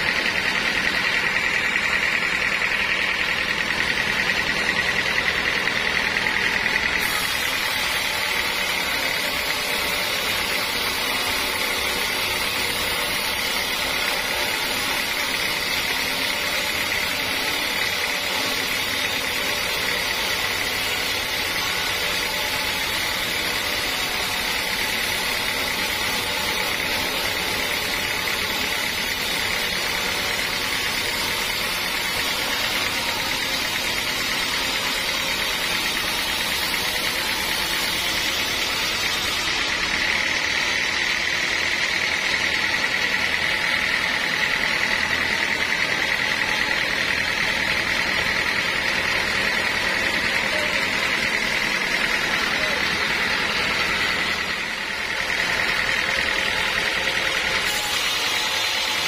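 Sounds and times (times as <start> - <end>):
machine drone: 0.0 - 59.0
saw blade cutting log: 0.0 - 59.0.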